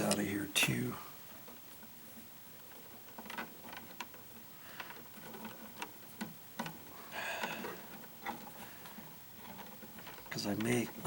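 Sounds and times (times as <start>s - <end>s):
electrical wires clicking: 0.0s - 0.4s, 1.4s - 11.0s.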